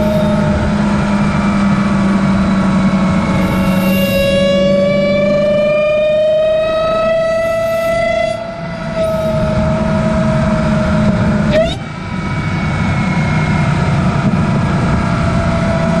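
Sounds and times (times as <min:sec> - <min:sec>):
engine low drone: 0:00.0 - 0:16.0
supercharger whine: 0:00.0 - 0:16.0.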